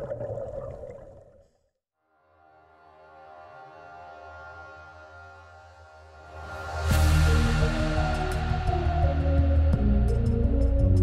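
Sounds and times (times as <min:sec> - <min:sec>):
slow ambient music: 0:02.1 - 0:11.0.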